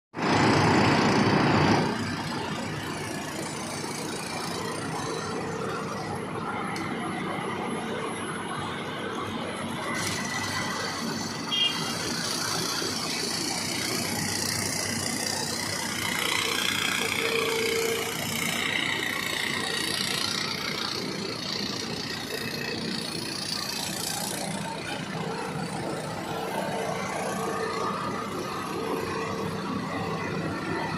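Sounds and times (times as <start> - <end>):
excavator diesel engine running: 0.2 - 30.9
high wavering whine: 0.2 - 30.9.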